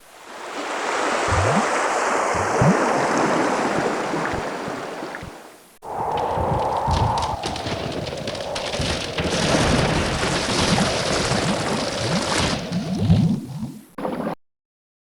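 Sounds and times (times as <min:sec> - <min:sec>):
different water sound: 0:00.0 - 0:14.4
rushing water with gurgles: 0:00.0 - 0:14.4.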